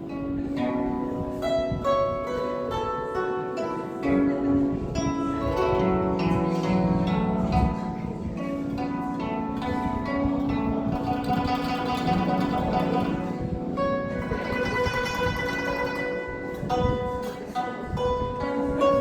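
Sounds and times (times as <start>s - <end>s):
plucked zither melody: 0.0s - 19.0s.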